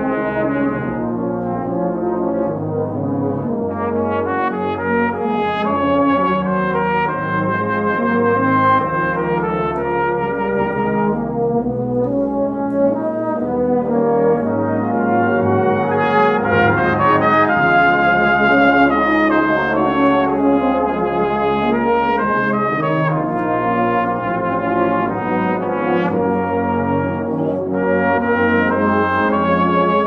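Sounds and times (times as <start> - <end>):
cornet playing melody: 0.0 - 30.0.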